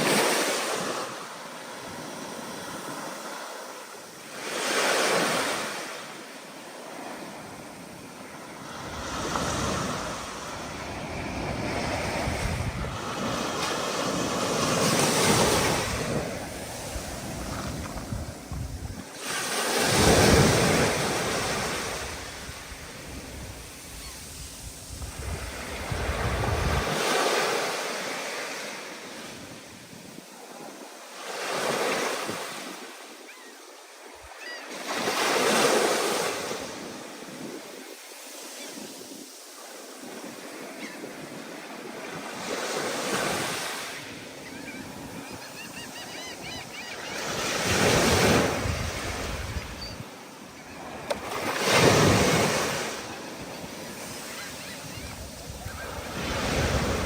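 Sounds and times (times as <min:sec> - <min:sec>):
stormy ocean waves crashing: 0:00.0 - 0:57.0.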